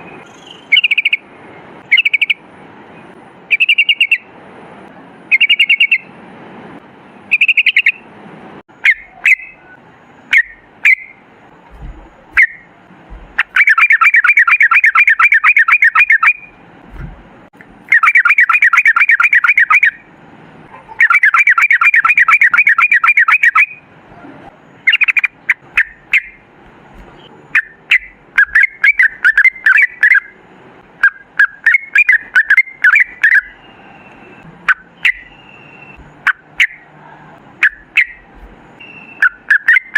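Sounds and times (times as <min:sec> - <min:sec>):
bulbul singing with rapid trills: 0:00.0 - 0:02.4, 0:03.5 - 0:04.3, 0:05.3 - 0:06.1, 0:07.2 - 0:08.1, 0:08.7 - 0:16.6, 0:17.7 - 0:20.1, 0:20.7 - 0:23.9, 0:24.6 - 0:30.4, 0:31.0 - 0:36.9, 0:37.6 - 0:39.9.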